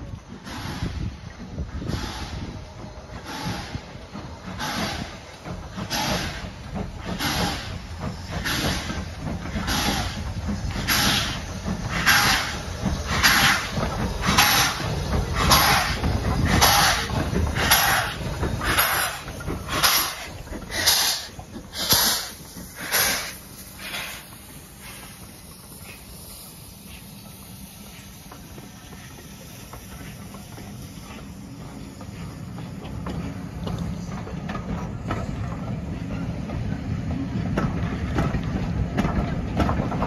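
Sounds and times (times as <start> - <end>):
rumble of engines and train: 0.0 - 40.0
steam hissing: 0.0 - 40.0
steam locomotive exhaust beats: 0.0 - 40.0.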